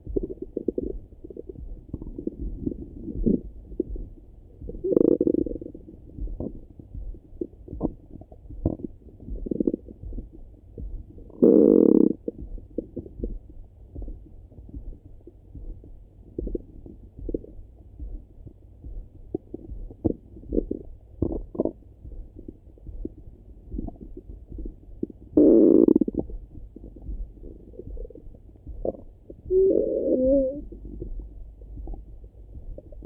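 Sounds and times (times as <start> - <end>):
muffled stomach rumbling: 0.0 - 33.0.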